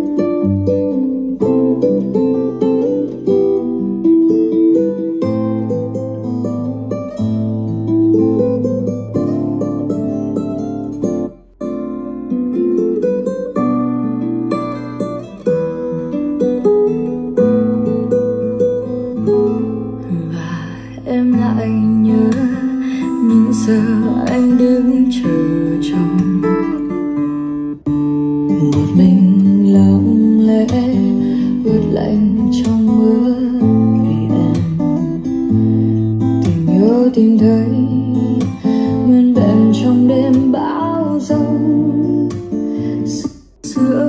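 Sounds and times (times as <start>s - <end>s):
pop ballad on acoustic guitar: 0.0s - 44.0s.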